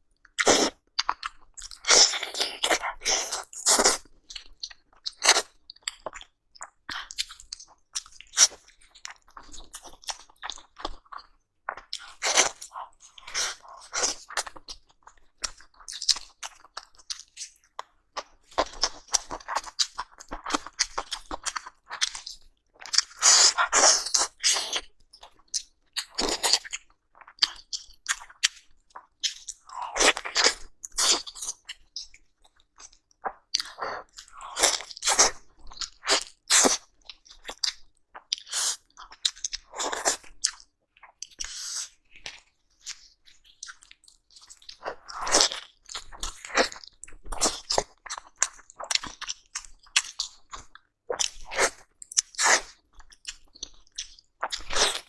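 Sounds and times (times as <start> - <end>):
chewing and biting food: 0.2 - 55.0.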